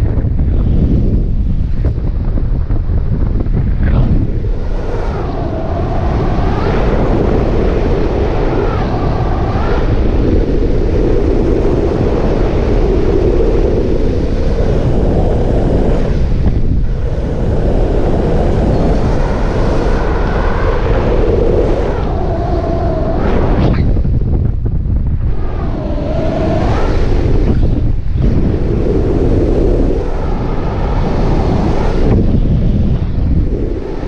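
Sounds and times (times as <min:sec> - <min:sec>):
paramotor engine and propeller: 0:00.0 - 0:34.0
wind noise on microphone: 0:00.0 - 0:34.0.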